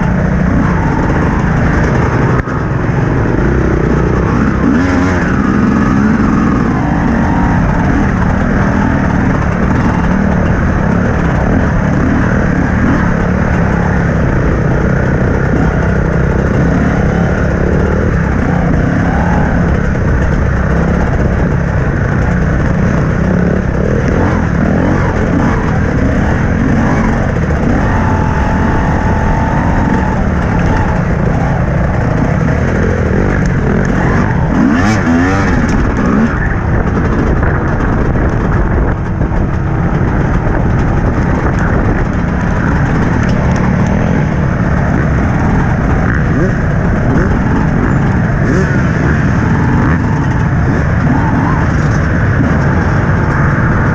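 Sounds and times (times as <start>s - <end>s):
dirt bike engine running: 0.0s - 53.9s
engine revving: 0.0s - 53.9s
other dirt bikes nearby: 0.0s - 53.9s.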